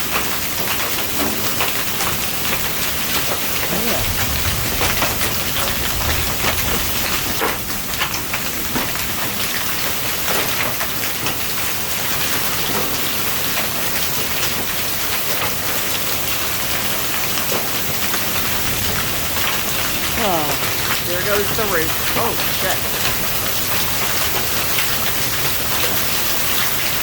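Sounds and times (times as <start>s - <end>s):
hail and rain on roof: 0.0s - 27.0s
wind: 0.0s - 27.0s.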